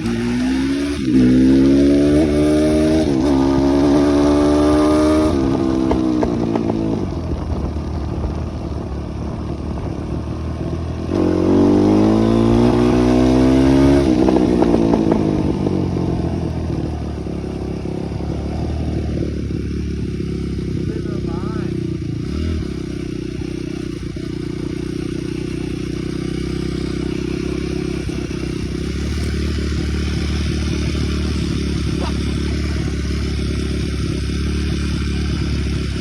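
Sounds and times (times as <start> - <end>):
dirt bike engine accelerating: 0.0 - 36.0.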